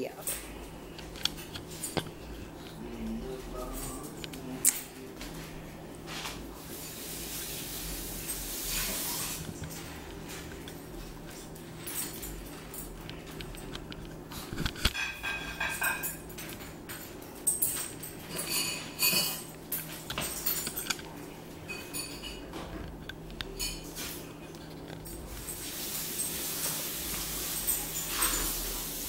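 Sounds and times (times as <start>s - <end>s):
dishes and cutlery clinking: 0.0s - 29.0s
low steady hum: 0.0s - 29.0s.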